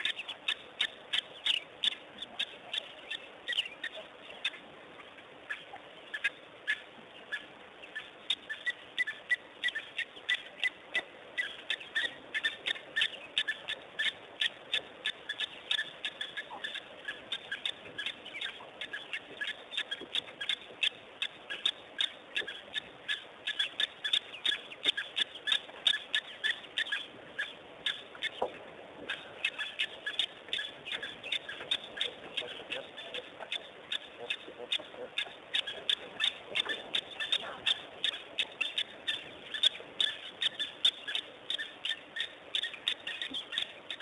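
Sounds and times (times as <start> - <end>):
faint steady hiss: 0.0 - 44.0
small birds chirping: 0.0 - 44.0.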